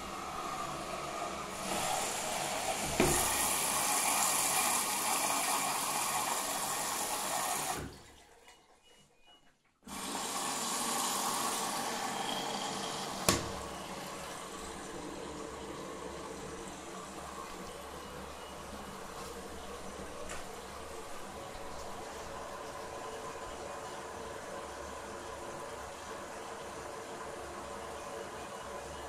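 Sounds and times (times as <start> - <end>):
washing machine water rushing: 0.0 - 9.0, 9.9 - 29.0.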